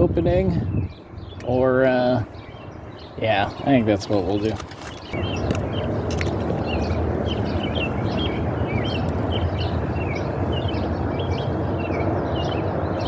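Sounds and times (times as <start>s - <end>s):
outdoor background rumble: 0.0s - 13.0s
small birds chirping: 0.0s - 13.0s.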